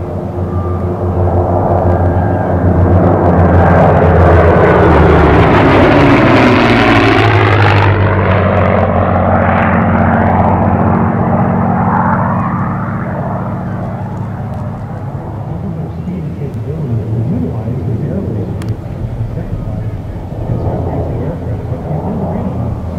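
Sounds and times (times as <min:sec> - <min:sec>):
propeller planes droning past: 0:00.0 - 0:22.9.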